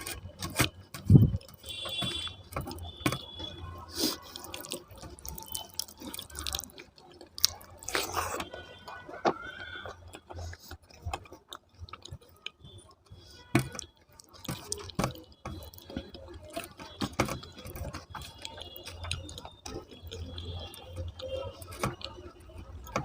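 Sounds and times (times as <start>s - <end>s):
wet chewing and mouth smacking: 0.0s - 23.0s.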